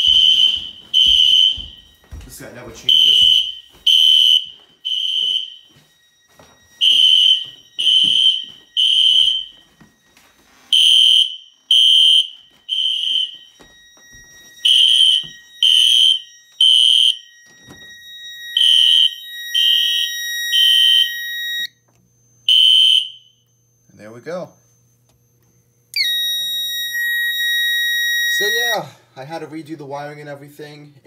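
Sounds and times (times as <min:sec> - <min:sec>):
steady high tone: 0:00.0 - 0:21.7, 0:25.9 - 0:29.4.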